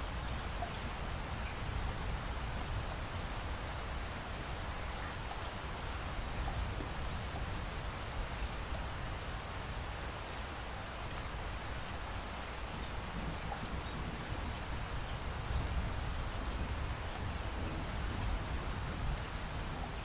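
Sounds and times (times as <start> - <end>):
rainfall hiss: 0.0 - 20.0.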